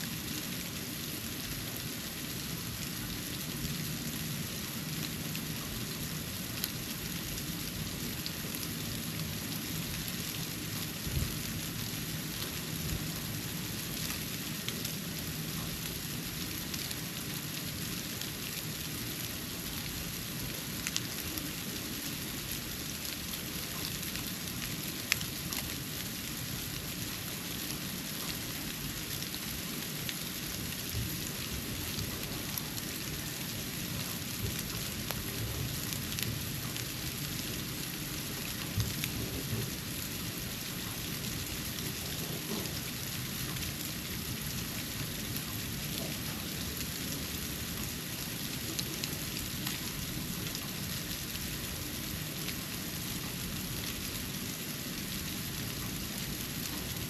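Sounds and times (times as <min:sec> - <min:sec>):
snow pattering on a porch: 0:00.1 - 0:57.0.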